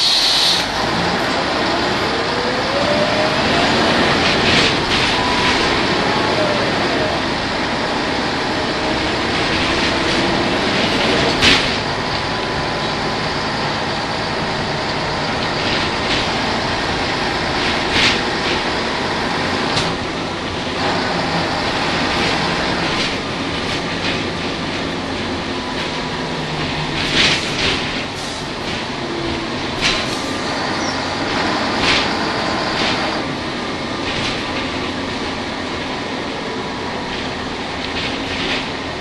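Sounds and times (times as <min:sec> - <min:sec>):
bus diesel engine running: 0:00.0 - 0:39.0
bus interior rattling: 0:00.0 - 0:39.0.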